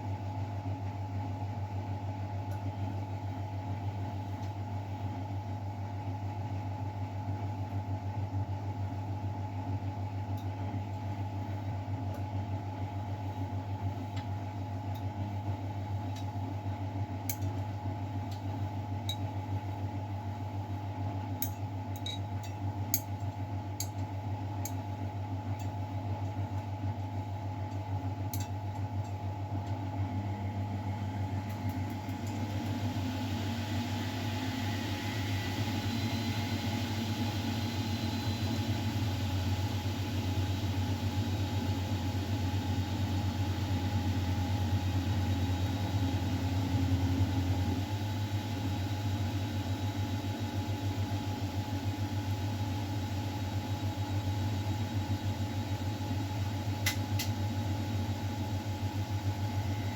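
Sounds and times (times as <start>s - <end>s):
washing machine running: 7.9s - 59.9s.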